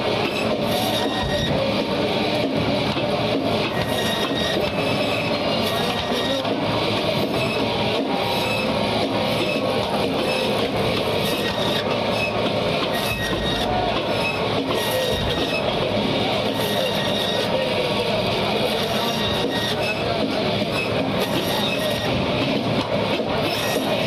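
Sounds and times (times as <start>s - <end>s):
band saw cutting fish: 0.0s - 1.8s, 3.6s - 22.6s, 23.2s - 24.0s.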